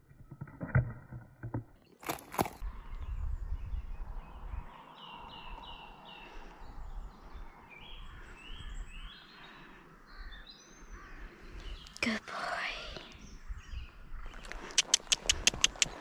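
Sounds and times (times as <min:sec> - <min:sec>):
birds chirping: 0:01.8 - 0:16.0.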